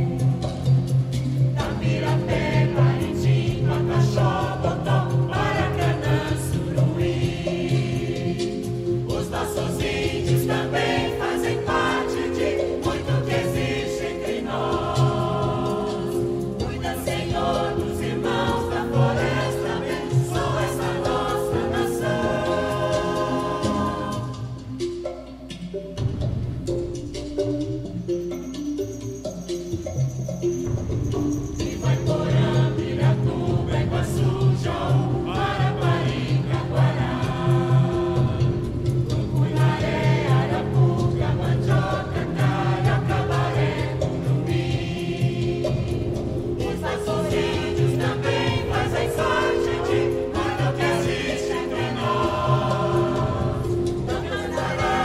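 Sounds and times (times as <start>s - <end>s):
choir singing: 0.0s - 24.9s, 30.7s - 55.0s
instrumental accompaniment with beat: 0.0s - 55.0s.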